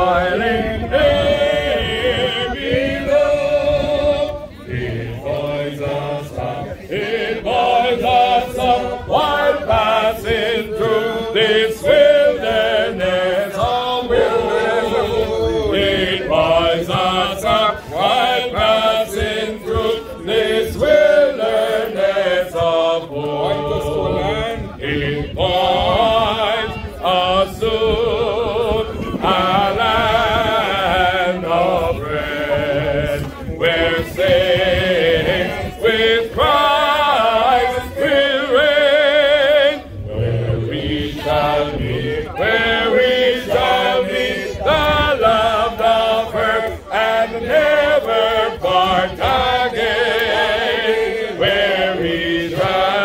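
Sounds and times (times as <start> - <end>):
group singing along: 0.0 - 53.0
man leading hymn singing: 0.0 - 53.0.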